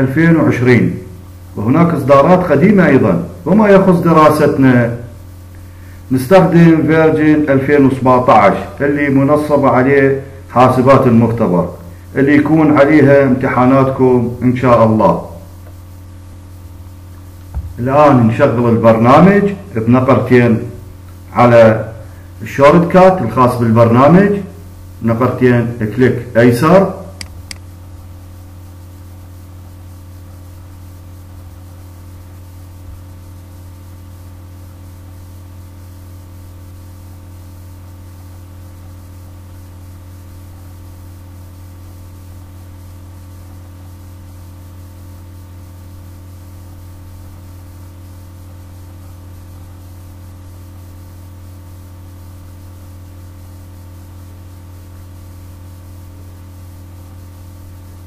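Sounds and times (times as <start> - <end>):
low electrical hum with hiss: 0.0 - 58.0.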